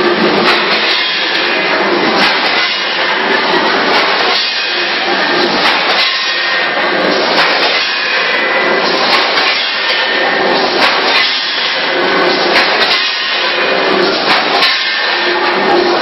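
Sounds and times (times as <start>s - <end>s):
packing machine clattering: 0.0s - 16.0s
repeating machine clack: 0.0s - 16.0s.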